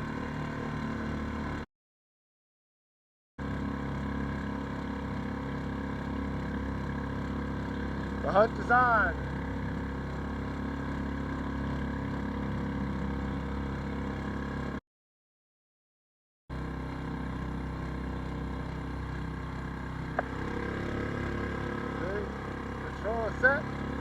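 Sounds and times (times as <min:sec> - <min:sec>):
motorboat engine running: 0:00.0 - 0:01.6, 0:03.4 - 0:14.8, 0:16.5 - 0:24.0.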